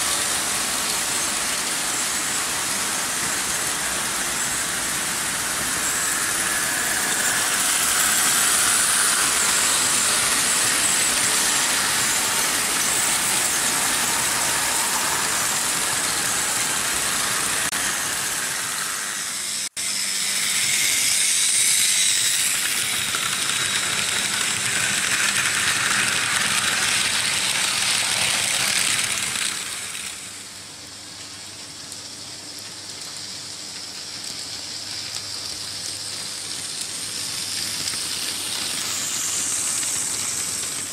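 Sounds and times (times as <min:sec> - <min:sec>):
model trains rattling on metal track: 0:00.0 - 0:30.4, 0:32.1 - 0:40.9.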